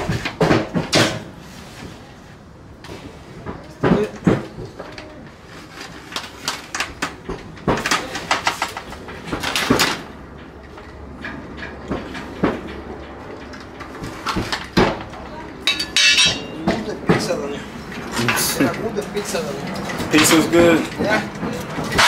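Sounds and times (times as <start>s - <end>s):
faint steady background noise: 0.0s - 22.0s.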